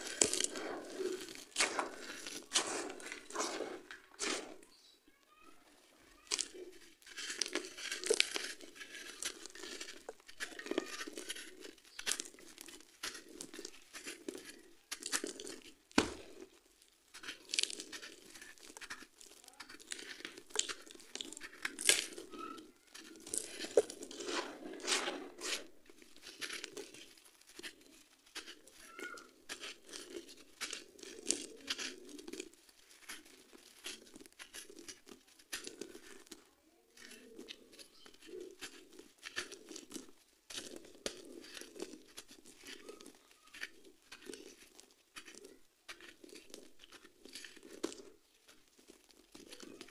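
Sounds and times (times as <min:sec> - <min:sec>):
dry lumps crunching by hand: 0:00.0 - 0:49.9.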